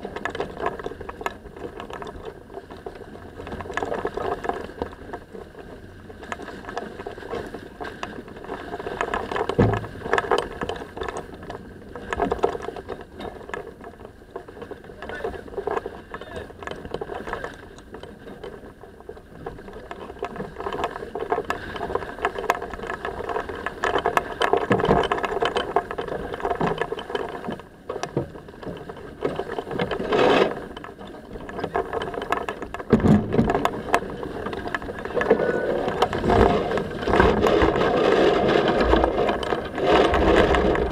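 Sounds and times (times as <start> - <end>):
deck gear clicking and rattling: 0.0 - 40.9
water rushing along hull: 0.0 - 40.9.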